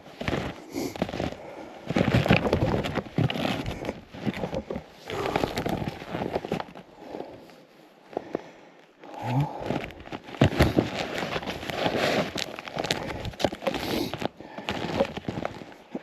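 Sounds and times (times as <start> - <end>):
snowshoe footsteps crunching snow: 0.0 - 7.3, 9.6 - 16.0.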